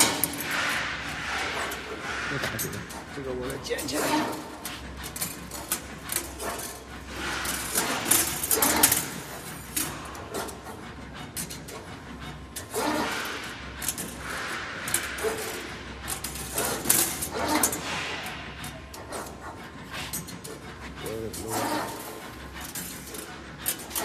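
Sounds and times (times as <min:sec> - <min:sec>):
wire bending machine whirring: 0:00.0 - 0:24.0.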